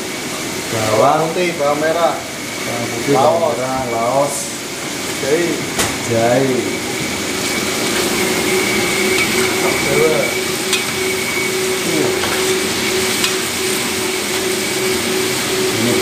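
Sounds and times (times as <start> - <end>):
food sizzling in a wok: 0.0 - 16.0
steady hum: 0.0 - 16.0.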